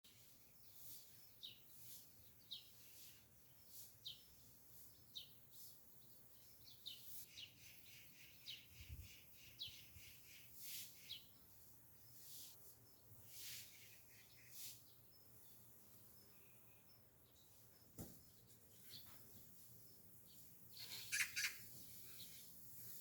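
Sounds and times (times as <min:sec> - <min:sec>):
bird chirping: 0:00.1 - 0:23.0.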